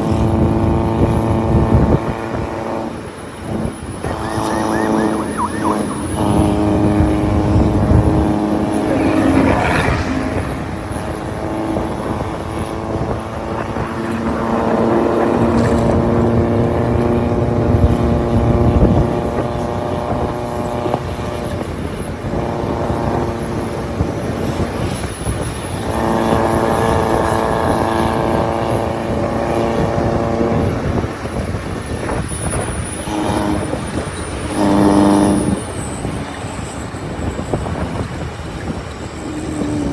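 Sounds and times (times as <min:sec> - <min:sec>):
diesel engines passing: 0:00.0 - 0:39.9.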